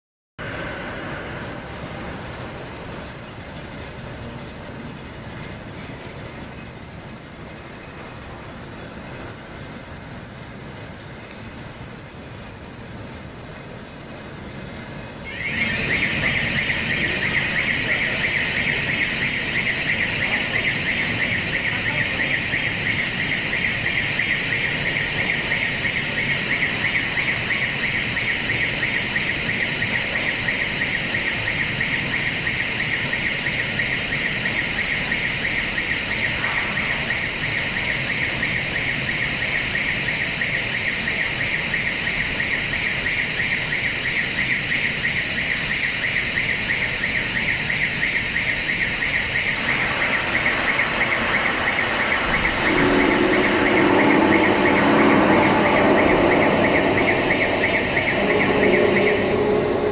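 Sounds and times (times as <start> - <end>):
shot blasting machine whining: 0.4 - 32.6, 33.4 - 41.1, 47.9 - 59.9.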